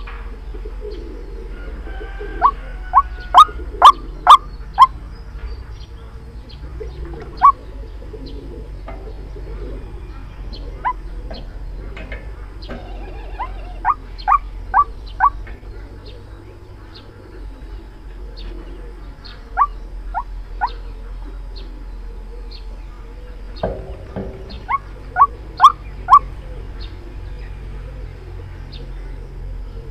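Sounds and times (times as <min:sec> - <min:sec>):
waterhen calling: 0:00.0 - 0:05.1, 0:06.7 - 0:29.9
steady low hum: 0:00.0 - 0:29.9.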